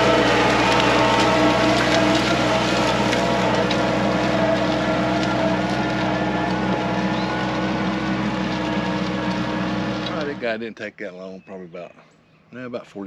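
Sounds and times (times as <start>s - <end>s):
tractor diesel engine running: 0.0s - 10.6s.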